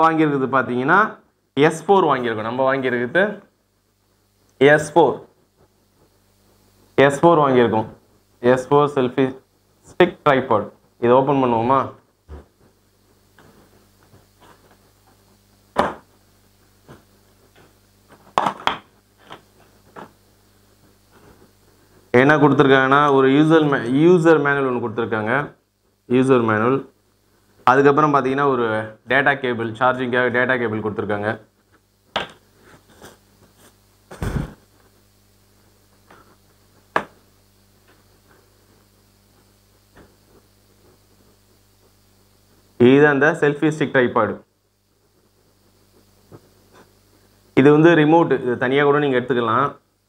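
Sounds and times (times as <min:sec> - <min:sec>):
faint low hum: 0:00.0 - 0:50.0.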